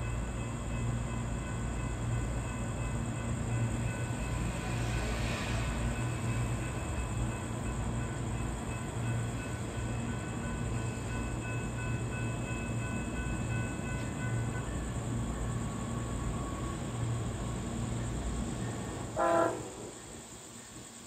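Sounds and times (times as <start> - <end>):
faint high steady tones: 0.0 - 21.0
train wheels rumbling on rails: 0.0 - 21.0.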